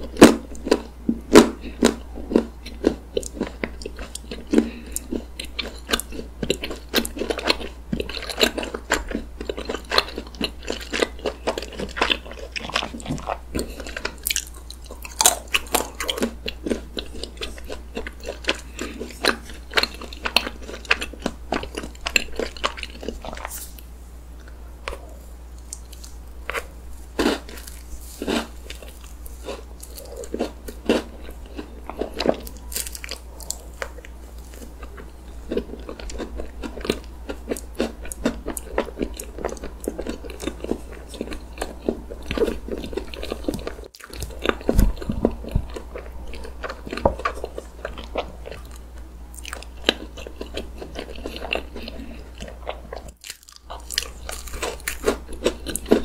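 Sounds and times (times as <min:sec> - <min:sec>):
person chewing cake: 0:00.0 - 0:56.0.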